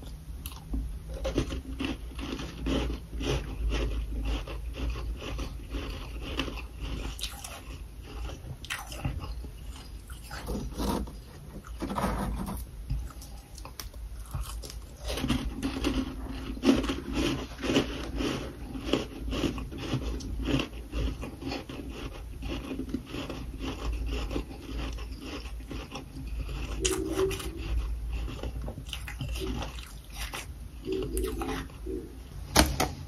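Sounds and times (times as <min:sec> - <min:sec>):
person crunching frost: 0:01.1 - 0:32.0.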